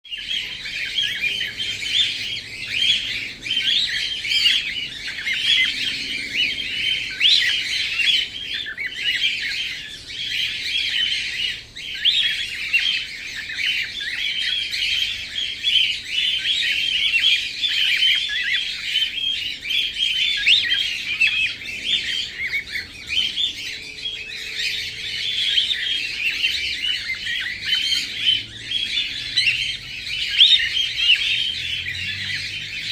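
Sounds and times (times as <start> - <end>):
cockatiel chirping and squawking: 0.1 - 32.9.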